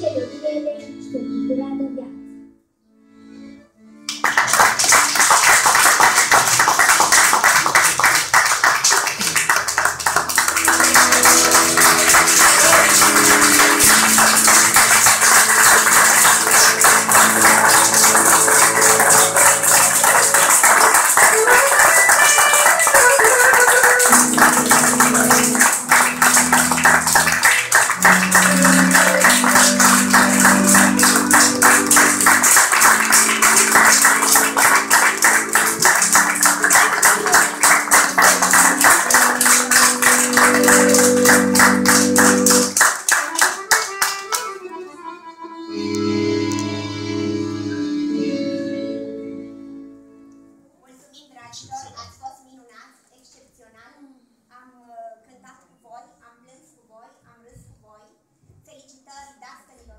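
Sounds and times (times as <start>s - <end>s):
accordion playing folk tune: 0.0s - 50.5s.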